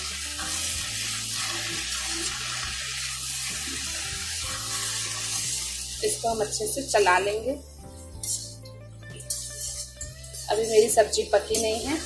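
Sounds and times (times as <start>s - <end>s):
vegetables sizzling in a pan: 0.0s - 7.5s, 8.2s - 8.6s, 9.2s - 12.0s.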